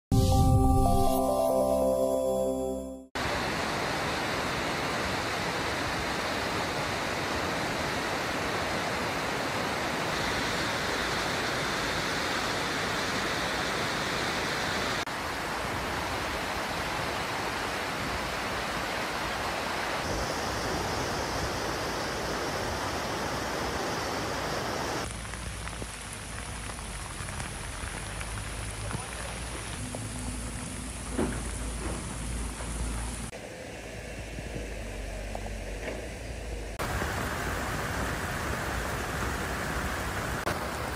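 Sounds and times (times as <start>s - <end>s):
floodwater rushing: 3.2s - 34.0s, 36.8s - 40.9s
heavy rain: 3.2s - 40.9s.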